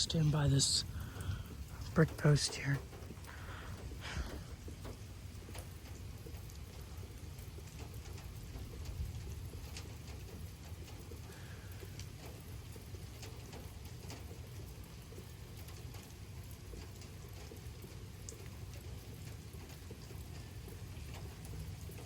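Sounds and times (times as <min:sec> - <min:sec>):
light rain falling: 0:00.0 - 0:22.0
raindrops tapping close by: 0:00.0 - 0:22.0.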